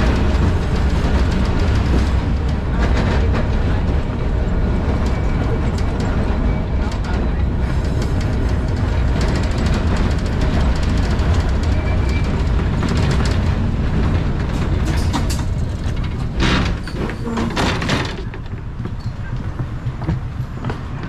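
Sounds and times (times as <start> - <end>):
tram clattering: 0.0 - 21.0
tram rumbling: 0.0 - 21.0.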